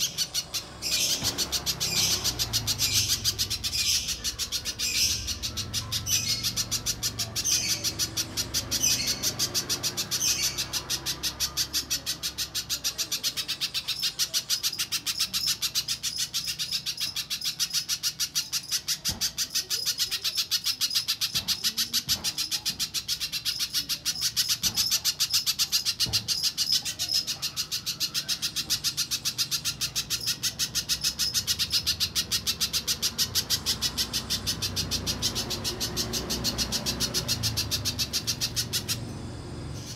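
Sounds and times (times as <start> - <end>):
bird calling with rapid chips: 0.0 - 39.9.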